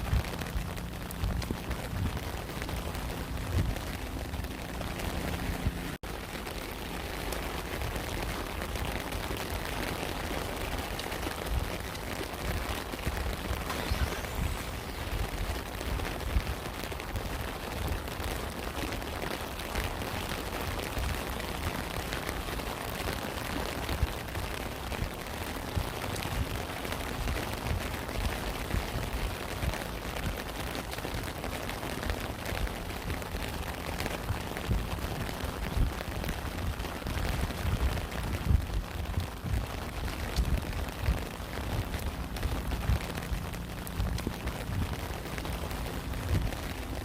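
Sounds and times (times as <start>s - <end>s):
low rumble: 0.0s - 9.9s, 10.6s - 18.5s, 20.9s - 47.0s
rain pattering: 0.0s - 47.0s.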